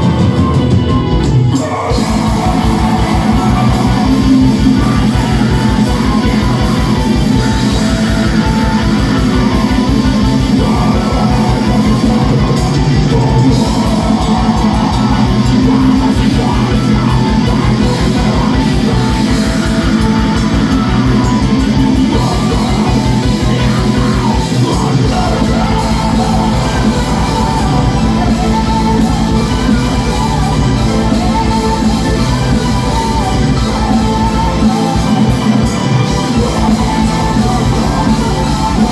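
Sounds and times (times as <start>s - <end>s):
distorted electric guitars: 0.0s - 38.9s
person singing: 0.0s - 38.9s.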